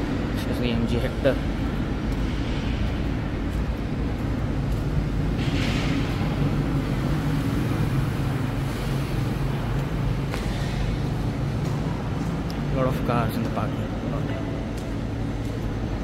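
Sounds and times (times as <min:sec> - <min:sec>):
background drone: 0:00.0 - 0:16.0
low mechanical hum: 0:00.0 - 0:16.0.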